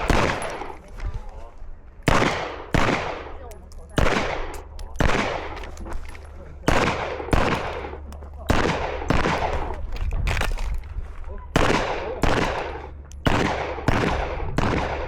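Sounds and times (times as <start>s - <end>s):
gunshots with ringing echo: 0.0s - 0.9s, 2.0s - 10.6s, 11.5s - 15.0s.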